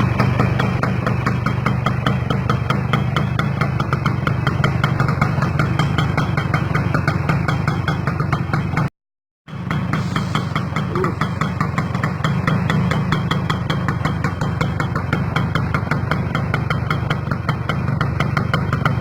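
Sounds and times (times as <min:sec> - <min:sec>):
two-stroke motorcycle engine idling: 0:00.0 - 0:08.9, 0:09.5 - 0:19.0.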